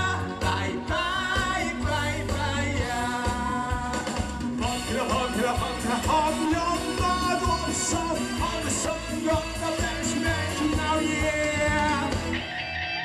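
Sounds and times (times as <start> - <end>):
man singing into microphone: 0.0 - 12.5
upbeat accompaniment with beat: 0.0 - 12.7.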